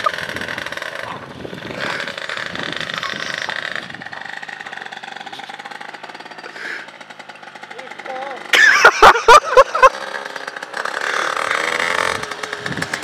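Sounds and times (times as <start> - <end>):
moped engine at high revs: 0.0 - 13.0.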